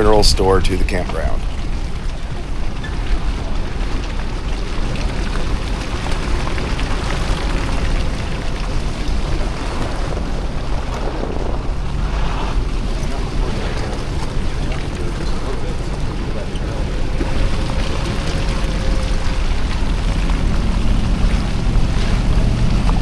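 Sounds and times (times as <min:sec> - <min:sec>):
vehicle engine and tyres rumbling: 0:00.0 - 0:23.0.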